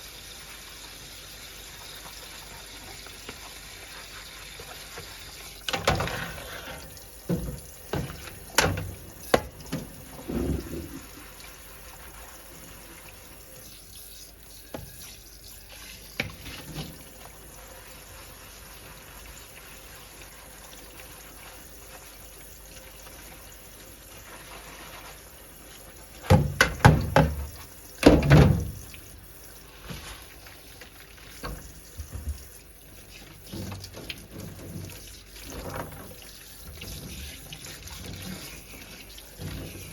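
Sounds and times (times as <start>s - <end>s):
water running: 0.0s - 39.9s.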